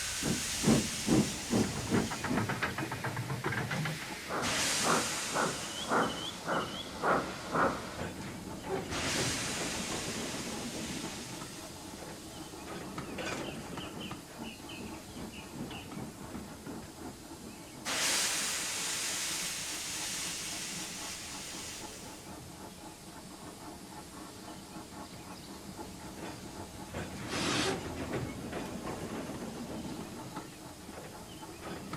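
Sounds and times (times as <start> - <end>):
steam hissing: 0.0 - 14.0, 17.2 - 31.4.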